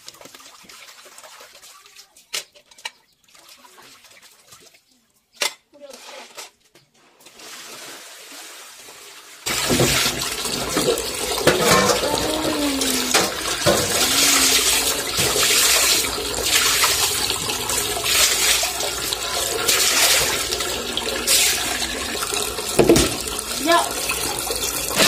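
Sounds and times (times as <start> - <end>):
water splashing on concrete floor: 0.0 - 2.5, 7.2 - 25.0
plastic basin rinsed and tipped: 0.0 - 4.8, 7.1 - 25.0.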